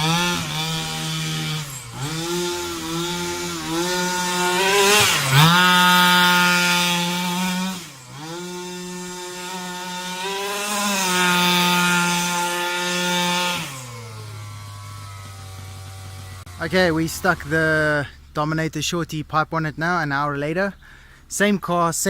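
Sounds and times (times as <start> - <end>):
two-stroke engine revving: 0.0 - 18.4.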